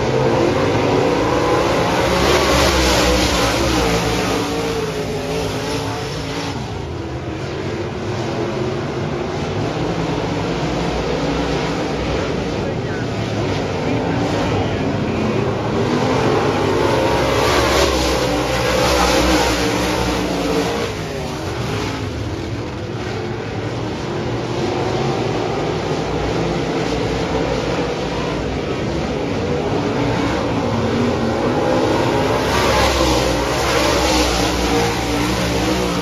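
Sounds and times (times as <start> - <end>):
race car engines: 0.0 - 36.0.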